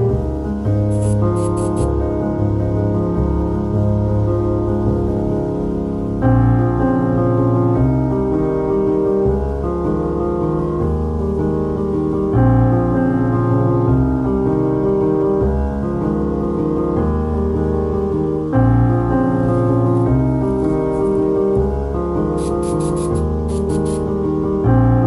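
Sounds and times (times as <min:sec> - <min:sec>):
instrumental piano music: 0:00.0 - 0:25.0.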